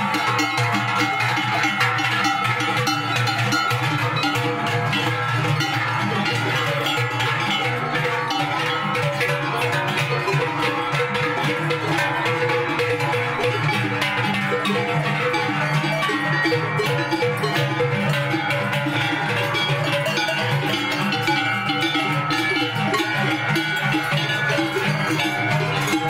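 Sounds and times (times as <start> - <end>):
cowbells ringing and clanking: 0.0 - 26.0.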